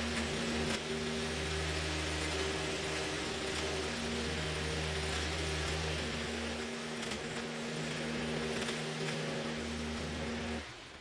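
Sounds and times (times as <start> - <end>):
small petrol engine at high revs: 0.0 - 10.7.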